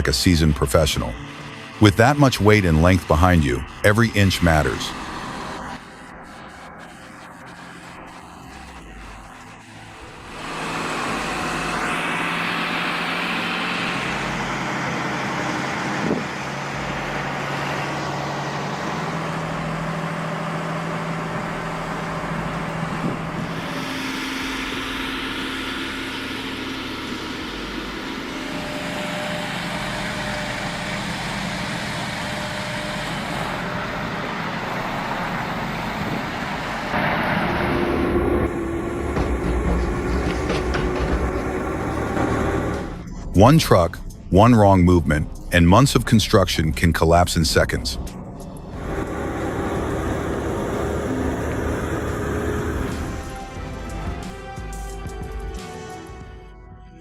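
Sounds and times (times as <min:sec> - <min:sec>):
road and traffic noise: 0:00.0 - 0:43.5, 0:47.4 - 0:56.2
truck engine running: 0:00.0 - 0:56.0.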